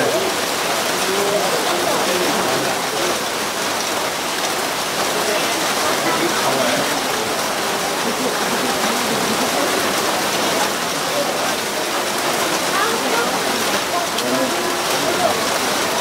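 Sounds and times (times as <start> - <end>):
faint murmur of voices: 0.0 - 16.0
rain falling in forest: 0.0 - 16.0.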